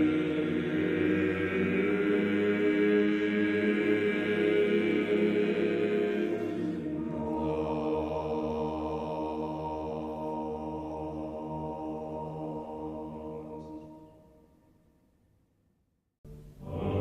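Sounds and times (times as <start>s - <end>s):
choir singing a chant: 0.0s - 14.3s, 16.6s - 17.0s.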